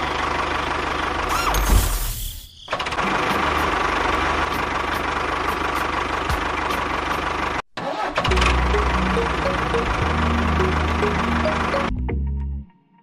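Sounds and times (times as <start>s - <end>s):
engine idling: 0.0s - 1.6s, 2.7s - 11.9s.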